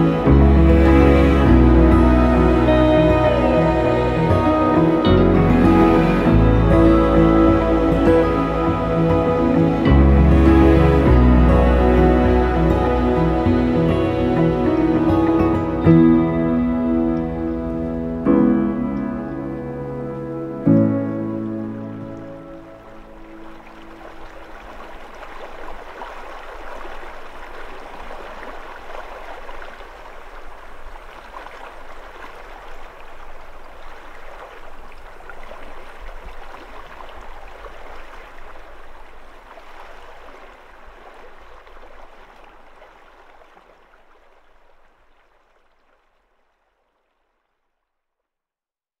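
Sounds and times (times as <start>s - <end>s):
river water babbling: 0.0s - 47.9s.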